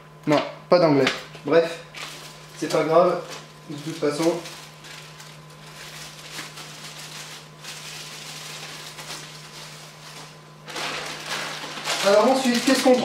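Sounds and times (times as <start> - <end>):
plastic bags rustling and crinkling: 1.9 - 13.0.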